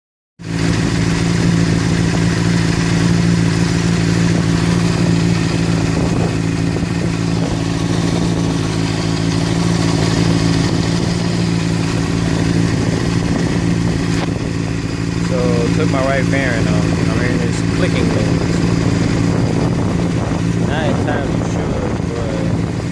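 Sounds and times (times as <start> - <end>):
motorcycle engine idling: 0.4 - 22.9.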